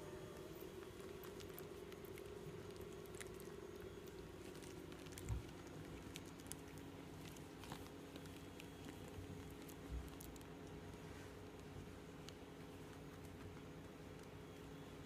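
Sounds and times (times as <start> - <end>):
puppies squirming and shuffling: 0.0 - 15.0
steady low hum: 0.0 - 15.0.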